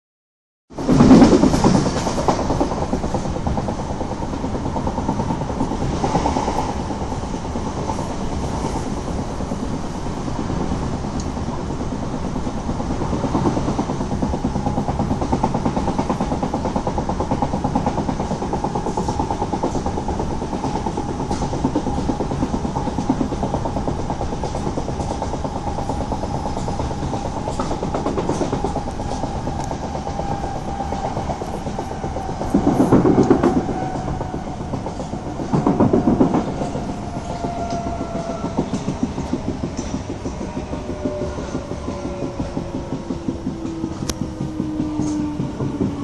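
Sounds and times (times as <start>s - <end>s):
train running on rails: 0.7s - 46.0s.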